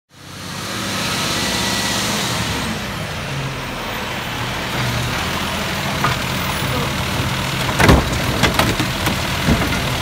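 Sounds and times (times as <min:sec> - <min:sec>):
garbage truck diesel engine: 0:00.1 - 0:10.0.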